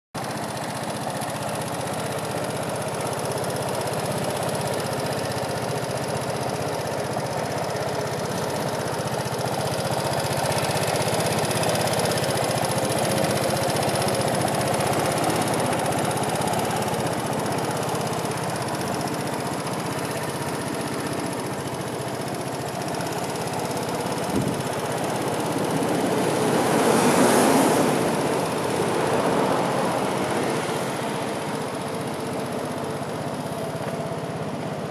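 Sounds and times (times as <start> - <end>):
scooter engine idling: 0.2 - 34.9.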